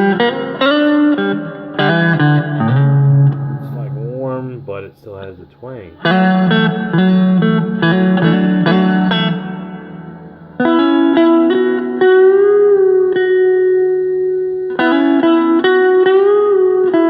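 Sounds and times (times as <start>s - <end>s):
clean electric guitar notes: 0.0s - 17.0s.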